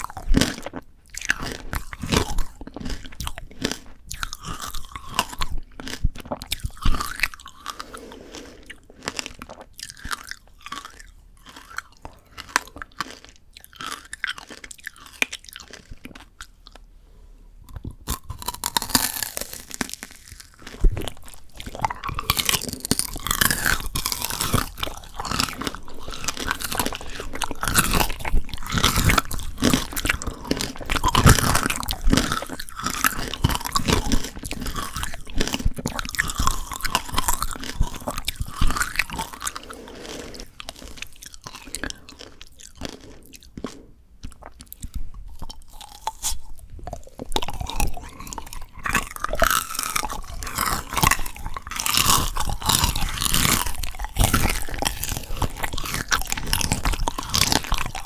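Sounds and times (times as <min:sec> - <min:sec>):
candy shell crunching when chewed: 0:00.0 - 0:16.9, 0:17.6 - 0:58.0.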